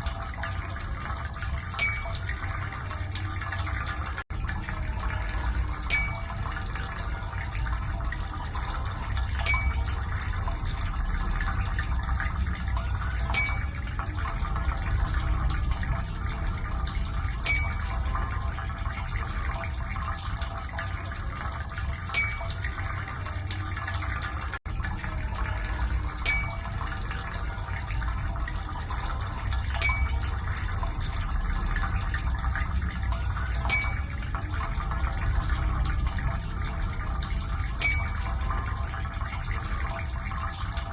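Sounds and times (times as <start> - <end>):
water running: 0.0 - 40.9.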